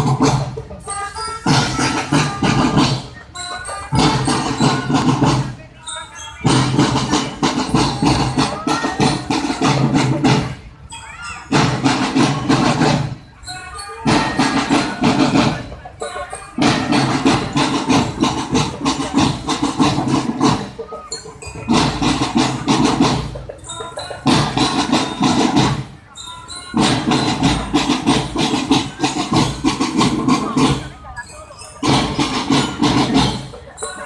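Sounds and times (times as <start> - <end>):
snare drums: 0.0 - 10.6, 11.5 - 13.3, 14.0 - 34.0
marching drum band: 0.0 - 34.0.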